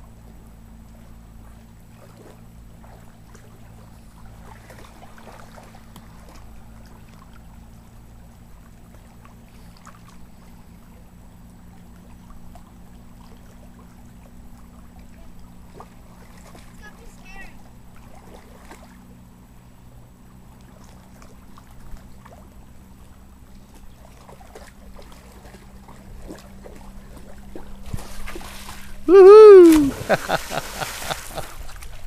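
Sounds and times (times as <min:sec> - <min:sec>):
light water sounds: 0:00.0 - 0:32.0
steady low hum: 0:00.0 - 0:32.0.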